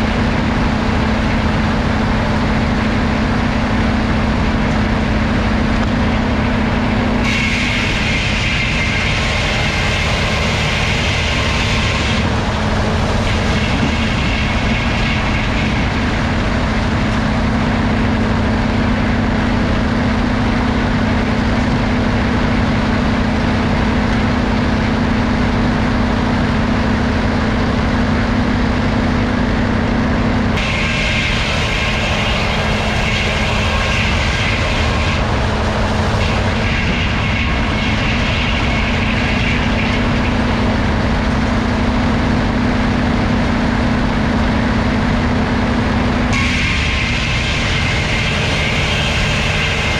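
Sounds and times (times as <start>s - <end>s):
wood being cut: 0.0s - 28.0s, 30.5s - 49.9s
sawmill machinery humming: 0.0s - 49.9s.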